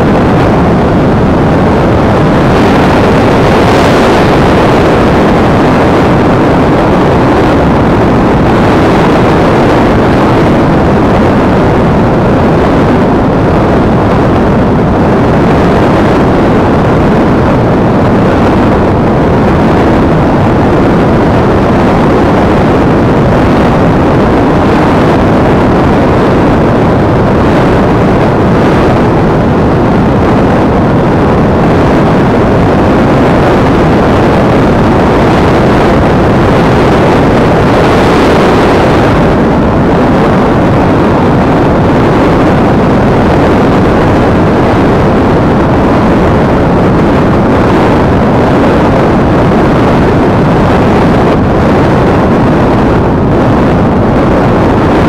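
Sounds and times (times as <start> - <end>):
wind rush and flight noise: 0.0 - 55.0.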